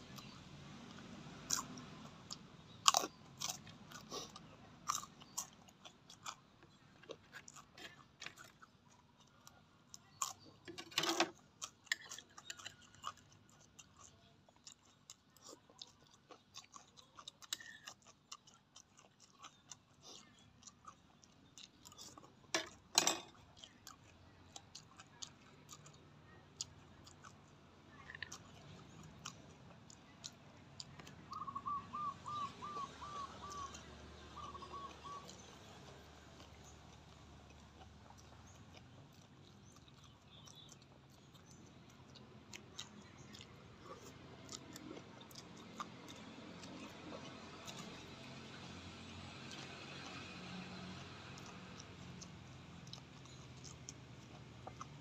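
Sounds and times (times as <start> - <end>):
person chewing crunchy food: 0.0 - 31.7, 32.3 - 55.0.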